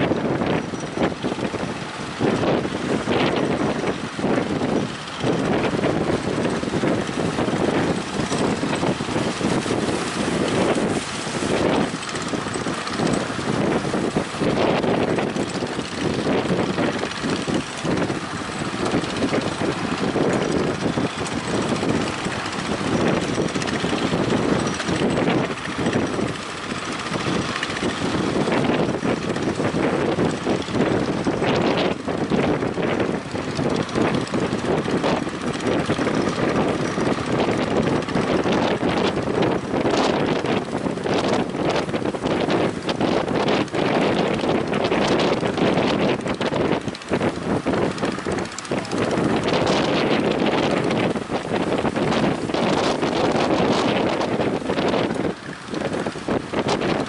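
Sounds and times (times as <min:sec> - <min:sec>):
speedboat engine running: 0:00.0 - 0:57.0
wind buffeting microphone: 0:00.0 - 0:57.0.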